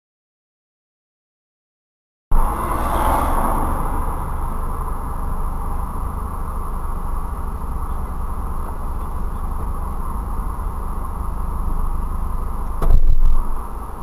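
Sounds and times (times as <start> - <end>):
car engine idling: 2.3 - 14.0
faint high electronic whine: 2.3 - 14.0.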